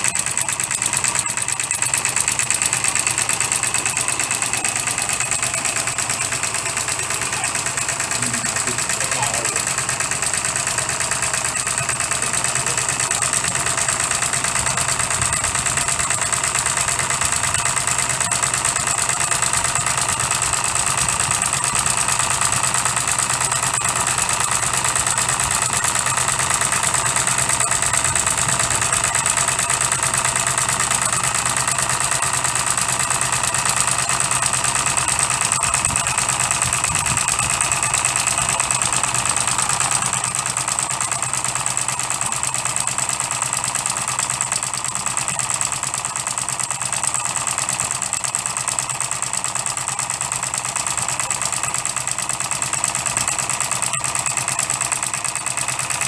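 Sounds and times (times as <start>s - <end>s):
model diesel engine running: 0.0s - 56.0s.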